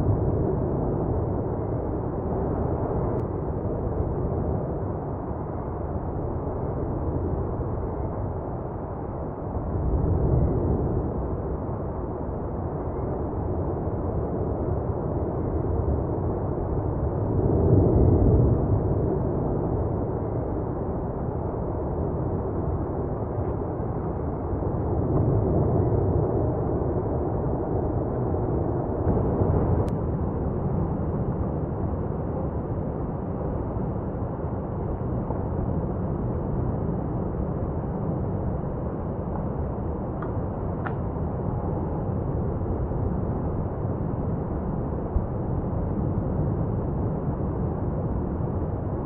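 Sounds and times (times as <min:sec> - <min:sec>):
low rumble of lava jetting: 0:00.0 - 0:49.0.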